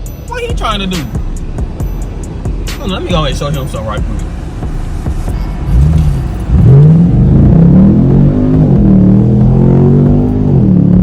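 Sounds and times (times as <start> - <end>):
car engine accelerating hard: 0.3 - 11.0.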